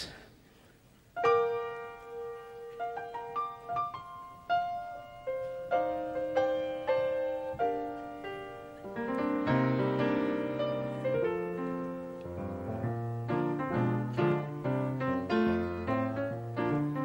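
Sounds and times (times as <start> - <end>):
solo piano notes: 1.1 - 17.0.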